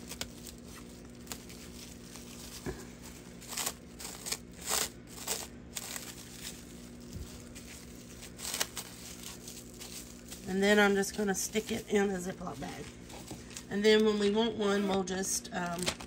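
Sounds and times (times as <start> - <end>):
plastic cling wrap crinkling: 0.0 - 16.0.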